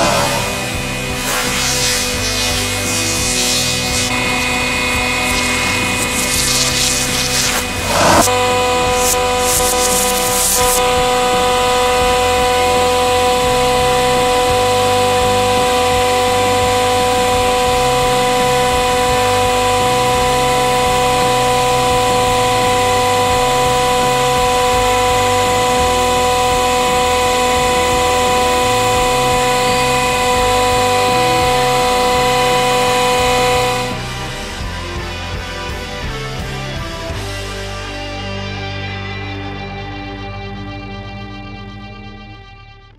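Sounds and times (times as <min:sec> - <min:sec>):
hydraulic pump whining: 0:00.0 - 0:37.2.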